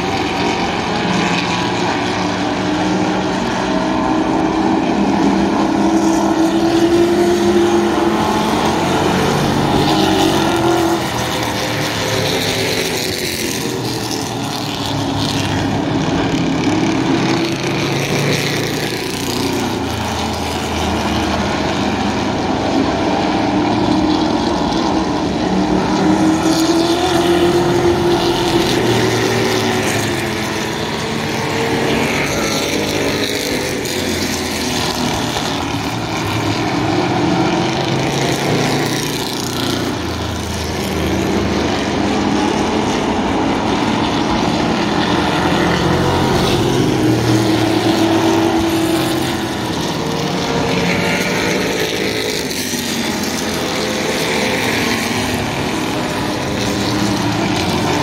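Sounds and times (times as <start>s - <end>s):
stock car engines racing: 0.0s - 58.0s.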